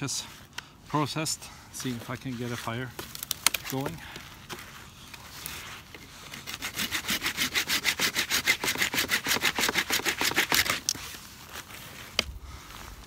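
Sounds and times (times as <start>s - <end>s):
hand saw cutting branch: 1.8s - 12.4s.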